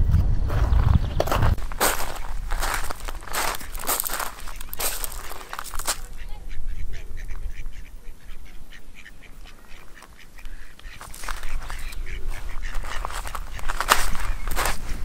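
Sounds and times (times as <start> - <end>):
ducks quacking: 1.2 - 15.0.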